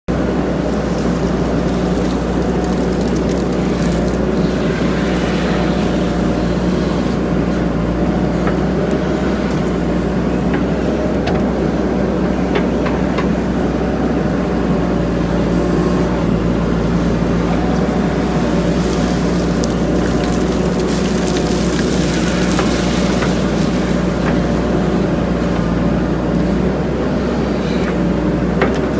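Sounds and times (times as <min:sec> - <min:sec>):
diesel engine running: 0:00.1 - 0:28.9.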